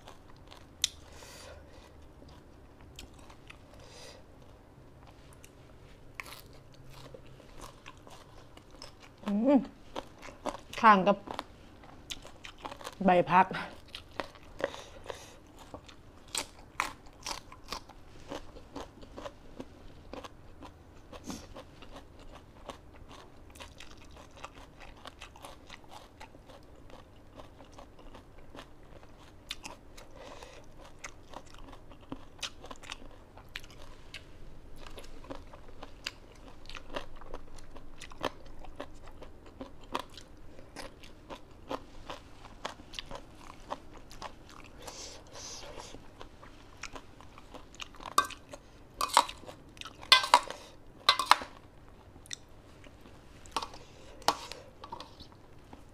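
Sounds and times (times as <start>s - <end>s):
person chewing crisp food: 0.0s - 13.0s, 13.7s - 55.9s.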